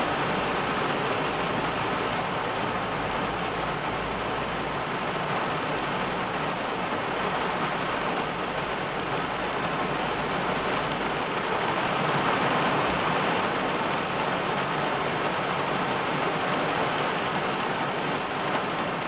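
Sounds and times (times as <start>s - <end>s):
heavy rain on car roof: 0.0s - 19.0s.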